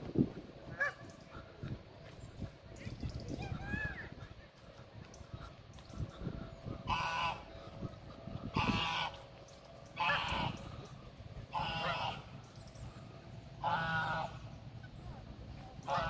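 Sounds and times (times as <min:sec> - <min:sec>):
goose honking: 0:00.6 - 0:02.2, 0:03.6 - 0:16.0.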